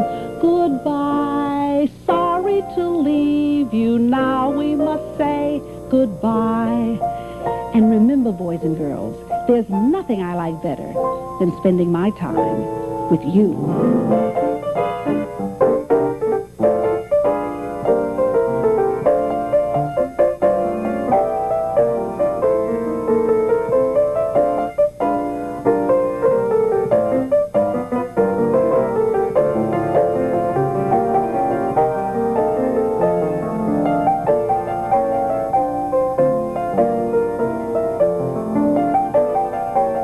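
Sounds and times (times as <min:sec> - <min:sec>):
piano playing: 0:00.0 - 0:40.0.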